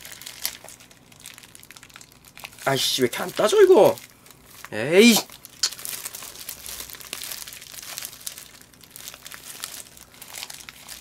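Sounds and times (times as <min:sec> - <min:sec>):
plastic sachet crinkling: 0:00.0 - 0:11.0.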